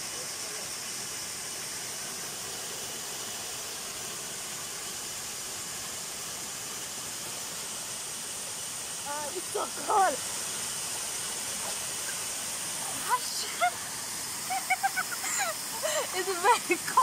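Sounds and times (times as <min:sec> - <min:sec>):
waterfall pouring over rocks: 0:00.0 - 0:17.0.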